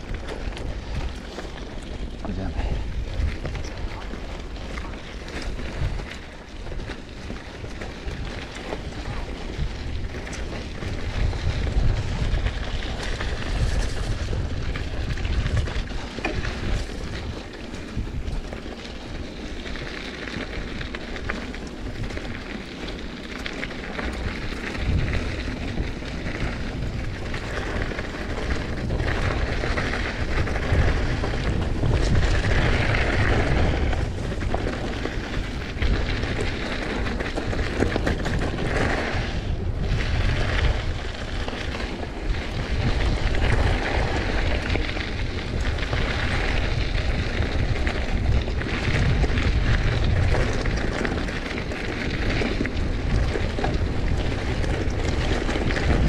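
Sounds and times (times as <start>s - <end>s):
bike rattling and knocking: 0.0s - 56.0s
tyres hissing on dirt trail: 0.0s - 56.0s
wind buffeting microphone: 0.0s - 56.0s.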